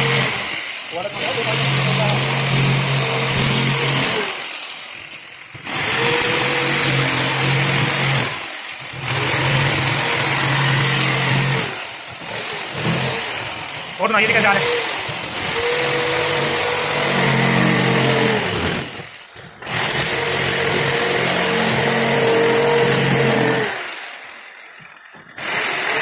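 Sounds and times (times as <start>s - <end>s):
electric jigsaw cutting: 0.0s - 26.0s.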